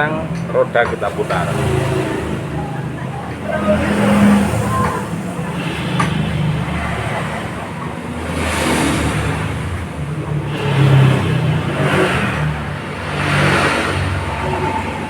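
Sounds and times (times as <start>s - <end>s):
motorbikes passing by: 0.0s - 15.0s.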